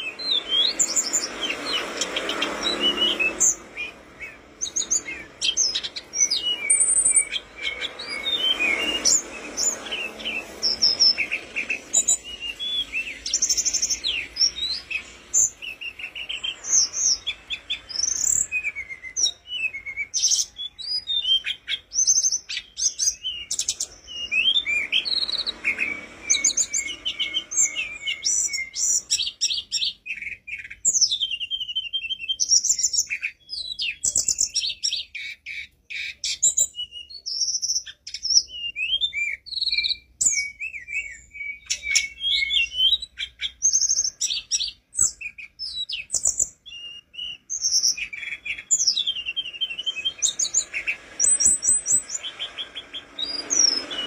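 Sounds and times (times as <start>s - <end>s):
bird singing whistled trills: 0.0s - 54.0s.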